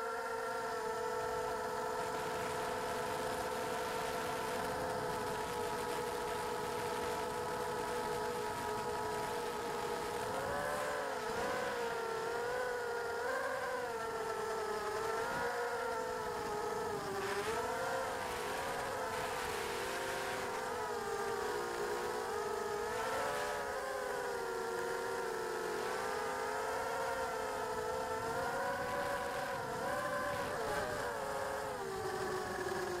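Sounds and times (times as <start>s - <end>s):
racing drone motors whining: 0.0s - 33.0s.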